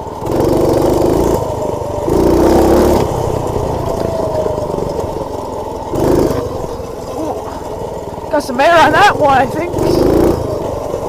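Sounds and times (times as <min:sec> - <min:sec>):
minibike engine revving: 0:00.0 - 0:11.0.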